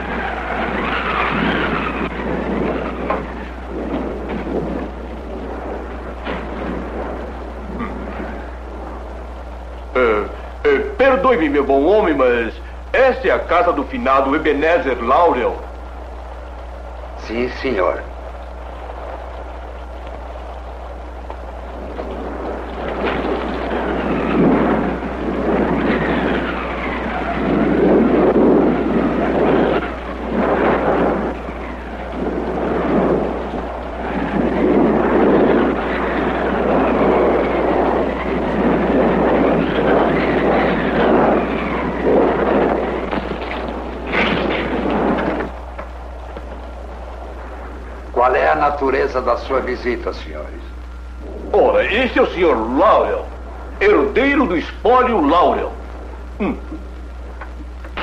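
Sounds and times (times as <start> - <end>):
howling gusting wind: 0.0 - 58.0
low steady hum: 0.0 - 58.0.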